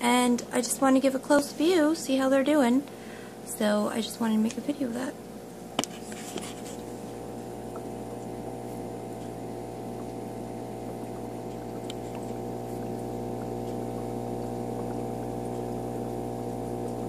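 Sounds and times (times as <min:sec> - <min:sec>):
aquarium pump motor humming: 0:00.0 - 0:17.0.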